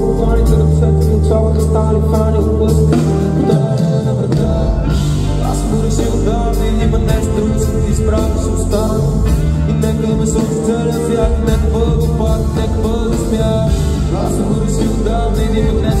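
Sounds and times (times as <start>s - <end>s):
live band music: 0.0s - 16.0s
man singing: 0.0s - 16.0s.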